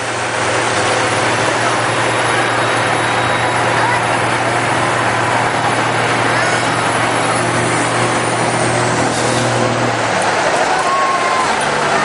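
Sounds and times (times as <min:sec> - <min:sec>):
truck diesel engines droning: 0:00.0 - 0:12.0.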